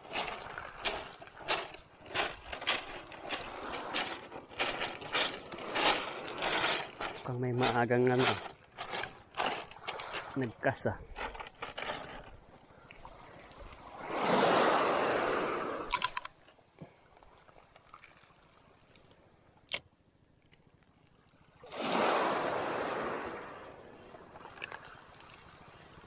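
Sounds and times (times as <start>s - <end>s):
small waves on pebble shore: 0.0s - 16.3s, 21.4s - 26.0s.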